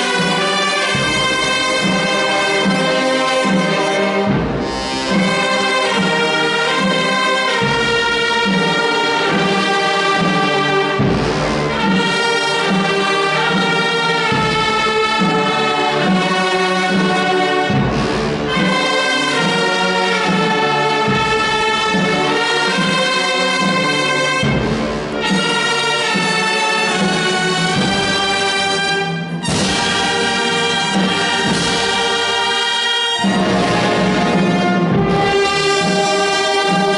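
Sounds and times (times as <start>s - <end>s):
wind band playing held chords: 0.0s - 36.9s.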